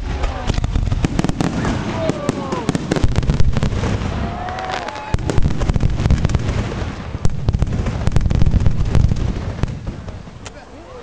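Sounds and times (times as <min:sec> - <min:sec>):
loud firework bang: 0:00.0 - 0:10.4
fireworks bursting and crackling: 0:00.0 - 0:11.0.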